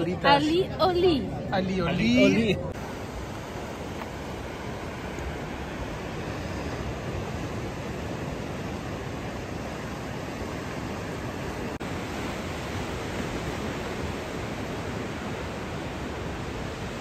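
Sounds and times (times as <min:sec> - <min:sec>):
sea waves breaking: 0:02.2 - 0:17.0.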